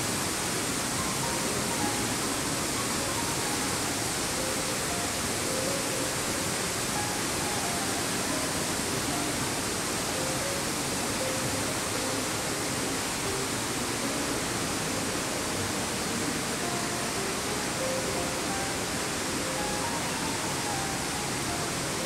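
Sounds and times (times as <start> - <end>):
indoor waterfall rushing: 0.0 - 22.0.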